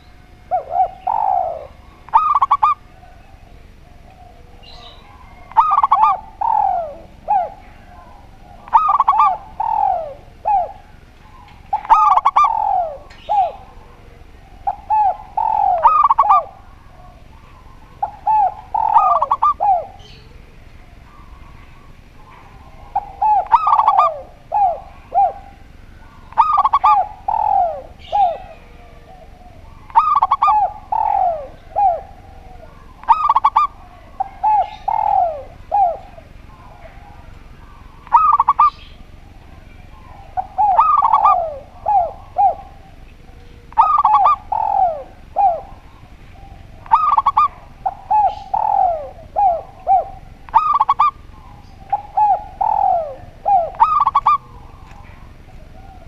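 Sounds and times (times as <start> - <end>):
doves cooing: 0.0 - 56.0.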